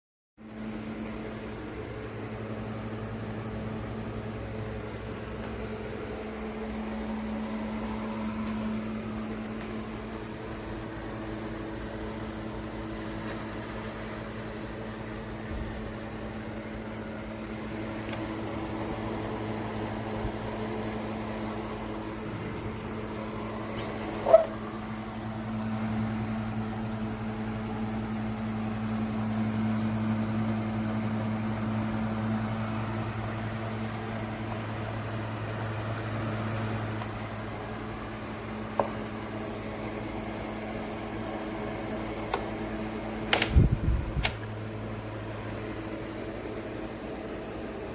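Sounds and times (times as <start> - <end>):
desk fan motor hum: 0.4 - 47.9.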